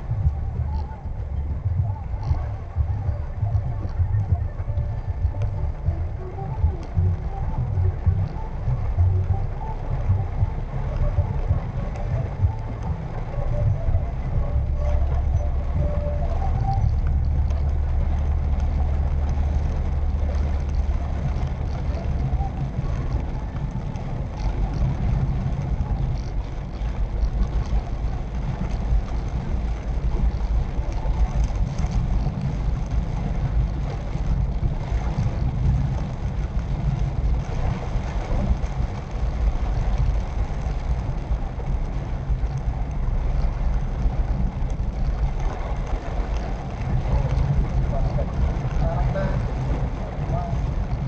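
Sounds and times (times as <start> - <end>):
engine and tyres rumbling: 0.0 - 51.0.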